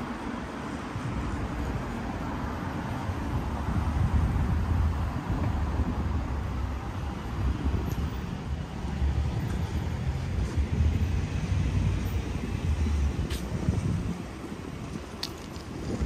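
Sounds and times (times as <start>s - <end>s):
road traffic: 0.0s - 16.0s
wind buffeting microphone: 0.7s - 16.0s.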